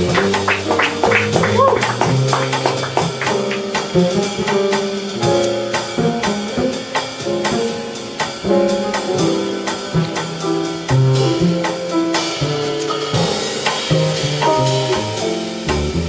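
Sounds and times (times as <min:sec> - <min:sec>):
drum kit with cymbals: 0:00.0 - 0:16.0
upright bass: 0:00.0 - 0:16.0.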